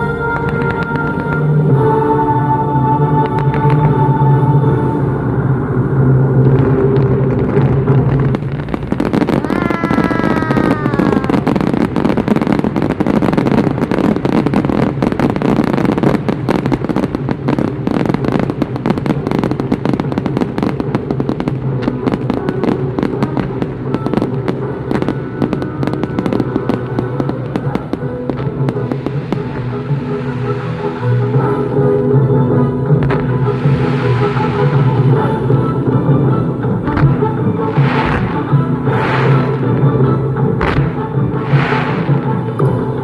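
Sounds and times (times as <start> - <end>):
fireworks crackling: 0.0 - 43.0
music: 0.0 - 43.0.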